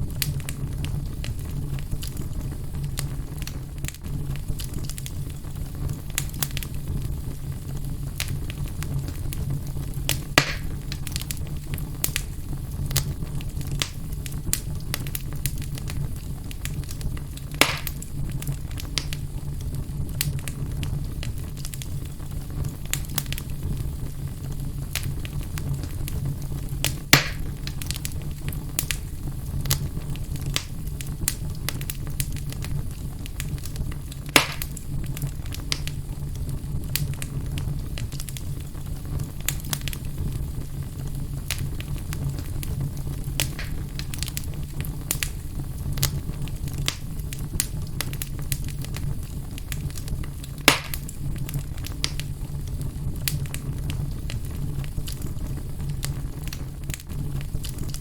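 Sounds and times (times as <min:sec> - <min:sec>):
fire crackling: 0:00.0 - 0:58.0
fire popping: 0:00.0 - 0:58.0.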